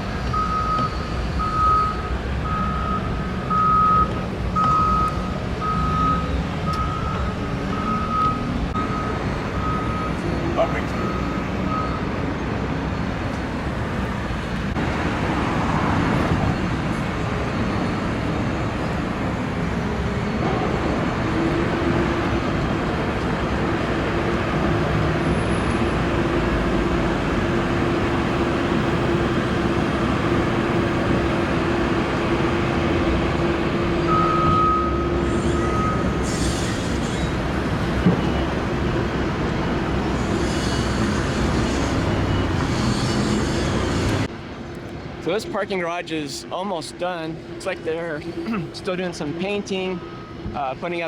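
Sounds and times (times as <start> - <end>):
road traffic: 0.0 - 51.0
steady engine drone: 0.0 - 51.0.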